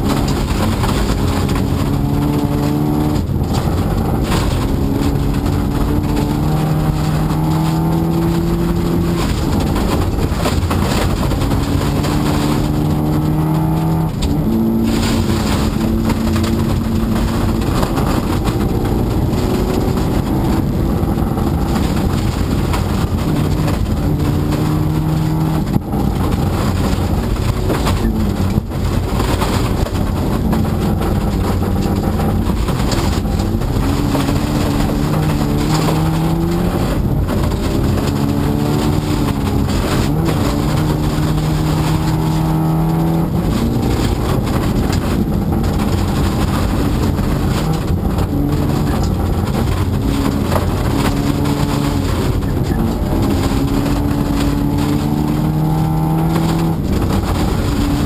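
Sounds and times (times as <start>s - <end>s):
car engine revving through gears: 0.0s - 58.0s
tyre and road noise: 0.0s - 58.0s.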